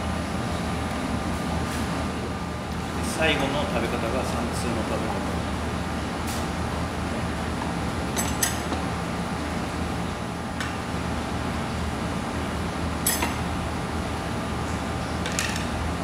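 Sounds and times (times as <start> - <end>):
air-conditioning hum: 0.0 - 16.0.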